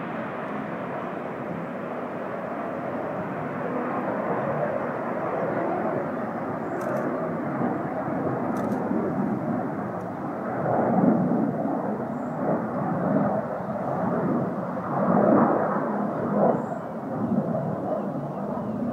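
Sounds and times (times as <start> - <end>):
distant jet roar: 0.0 - 18.9.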